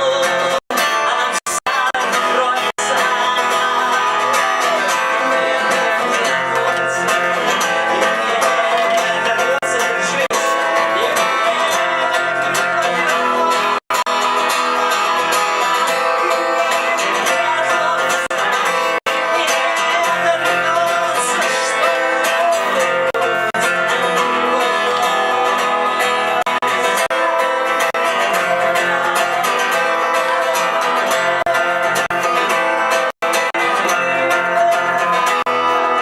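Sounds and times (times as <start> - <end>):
live instrumental music with guitar: 0.0 - 36.0.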